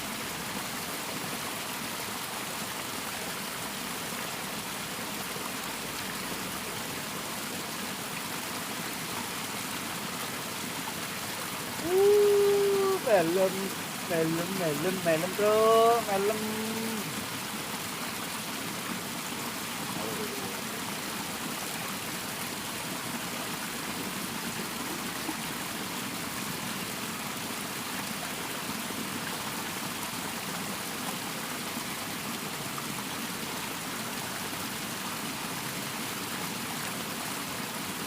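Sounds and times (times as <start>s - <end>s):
water rushing in a ditch: 0.0s - 38.0s.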